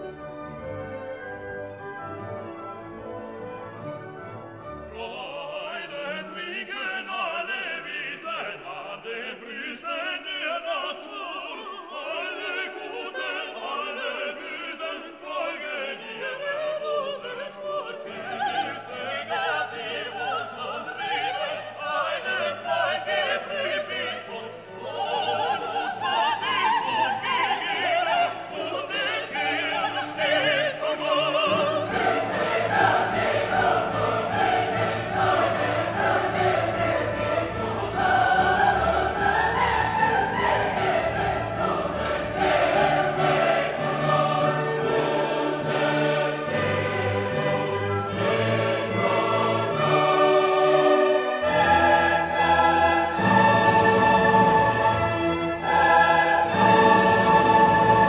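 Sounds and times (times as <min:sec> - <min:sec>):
operatic singing with orchestra: 0:00.0 - 0:58.0.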